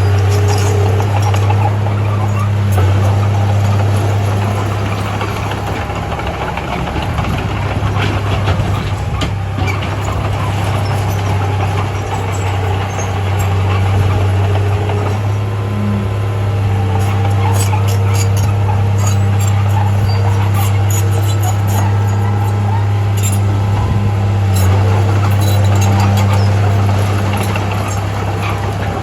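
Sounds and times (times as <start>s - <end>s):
heavy diesel engine droning: 0.0s - 29.0s.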